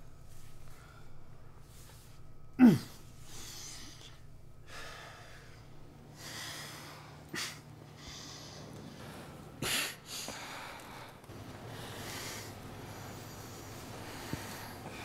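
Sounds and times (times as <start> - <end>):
heavy breathing: 0.6 - 15.0.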